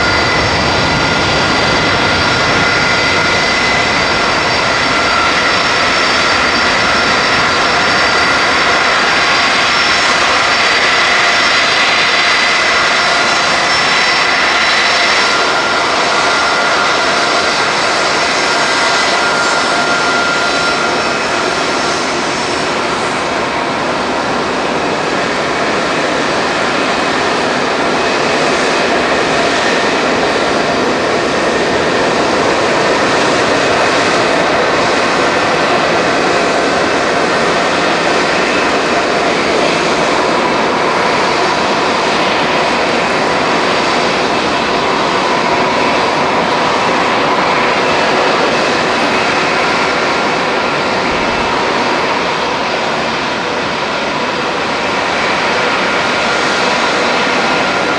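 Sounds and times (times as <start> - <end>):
jet engine rush: 0.0 - 57.9
jet engines whining: 0.0 - 57.9.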